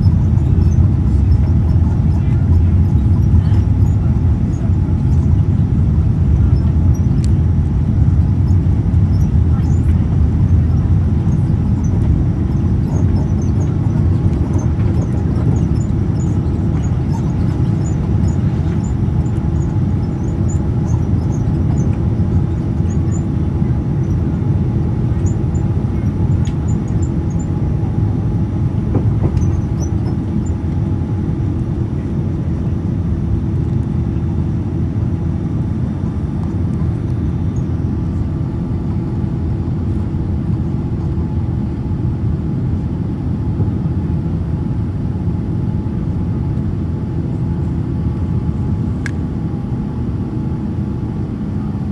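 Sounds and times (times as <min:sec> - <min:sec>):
airplane cabin engine rumble: 0:00.0 - 0:51.9.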